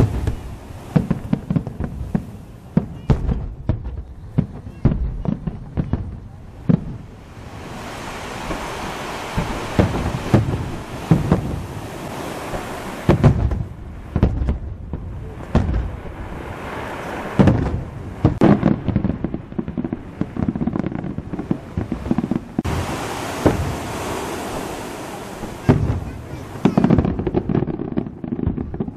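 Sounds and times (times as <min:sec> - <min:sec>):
fireworks booming: 0:00.0 - 0:28.9
fireworks crackling: 0:00.0 - 0:28.9.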